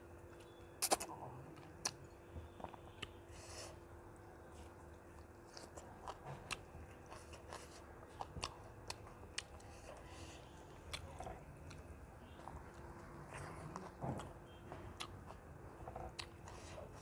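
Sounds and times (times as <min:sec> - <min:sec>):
person chewing: 0:00.3 - 0:17.0.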